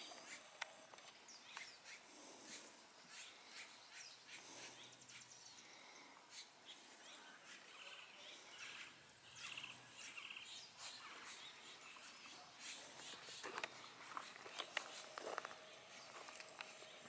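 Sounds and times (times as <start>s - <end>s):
faint songbirds chirping: 0.0s - 17.0s.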